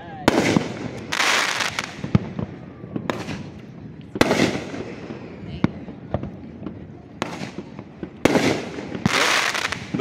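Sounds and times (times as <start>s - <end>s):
fireworks bangs: 0.0s - 10.0s
fireworks crackle: 0.0s - 10.0s.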